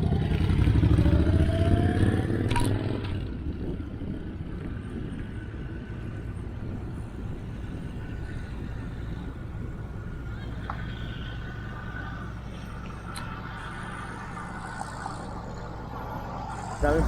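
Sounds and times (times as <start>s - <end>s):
low traffic rumble: 0.0s - 17.0s
vehicle pulling away: 0.0s - 17.0s.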